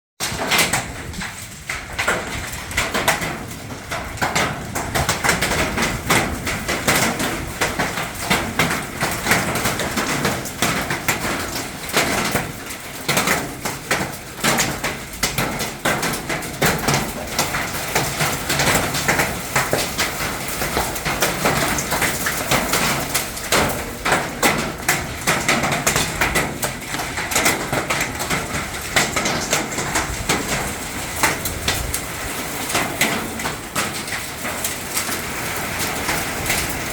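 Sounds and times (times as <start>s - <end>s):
hailstones pelting hard surfaces: 0.2s - 36.9s.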